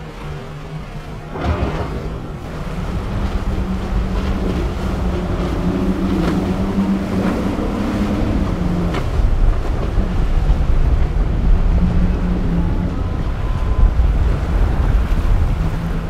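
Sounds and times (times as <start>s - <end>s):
outboard engines running: 0.0s - 16.0s
rushing water and spray: 0.0s - 16.0s
water splashes: 0.0s - 16.0s
wind noise on microphone: 1.2s - 16.0s.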